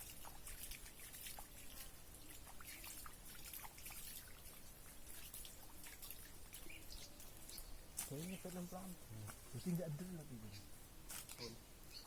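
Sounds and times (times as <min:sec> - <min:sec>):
water drips ticking: 0:00.0 - 0:09.8
faint trickling water: 0:00.0 - 0:12.0.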